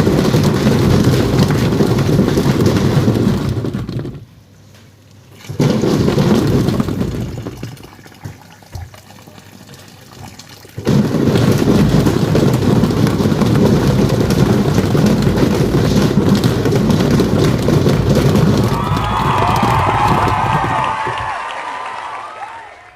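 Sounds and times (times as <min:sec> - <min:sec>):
washing machine churning water: 0:00.0 - 0:04.4, 0:05.4 - 0:20.9.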